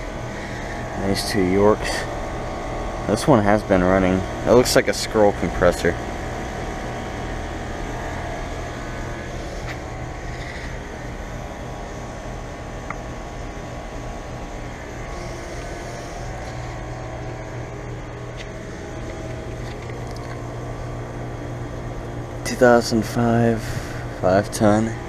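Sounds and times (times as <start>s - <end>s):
compressor hum: 0.0s - 25.0s
condenser fan rushing: 0.0s - 25.0s.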